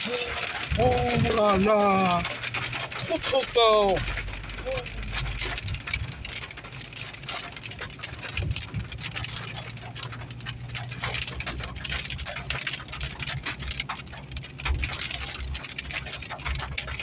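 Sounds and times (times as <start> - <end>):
rain and sleet pelting a car: 0.0 - 17.0.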